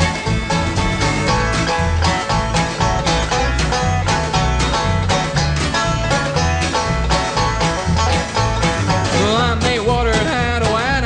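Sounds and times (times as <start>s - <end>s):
banjo picking quick runs: 0.0s - 11.0s
guitar: 0.0s - 11.0s
steady bass beat: 0.0s - 11.0s.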